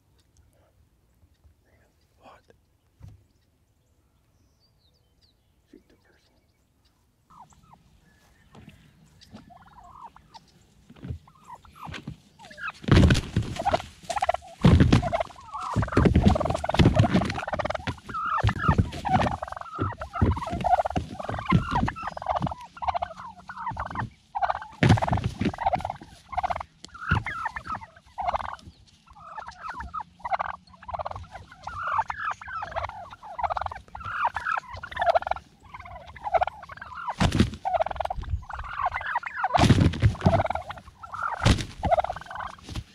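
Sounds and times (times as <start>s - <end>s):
turkeys gobbling: 5.8s - 42.9s.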